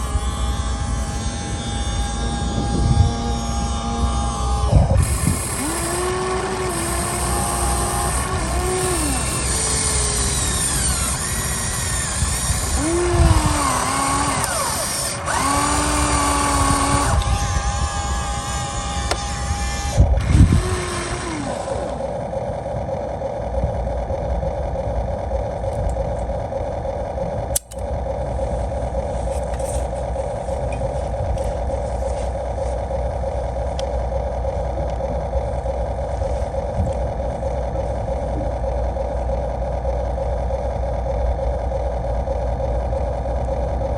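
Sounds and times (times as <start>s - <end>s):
electric motors whining: 0.0s - 43.9s.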